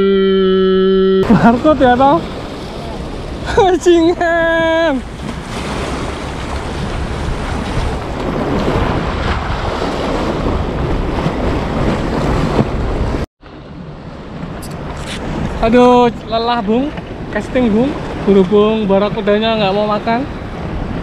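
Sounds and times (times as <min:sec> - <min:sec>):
waves splashing against concrete: 0:01.2 - 0:21.0
wind buffeting microphone: 0:01.2 - 0:21.0.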